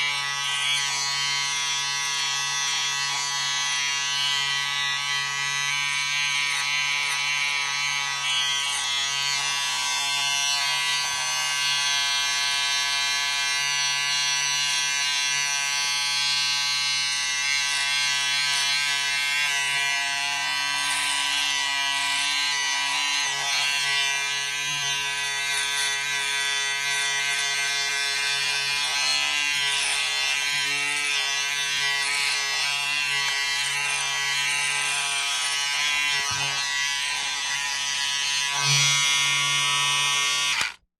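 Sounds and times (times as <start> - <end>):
electric razor buzzing: 0.0 - 40.8.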